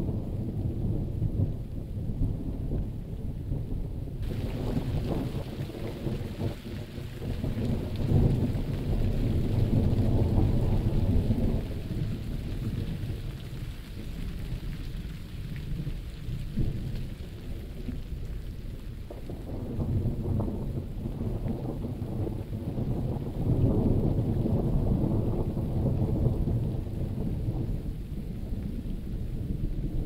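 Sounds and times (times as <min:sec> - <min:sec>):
rolling thunder: 0:00.0 - 0:30.0
steady rain: 0:00.0 - 0:30.0.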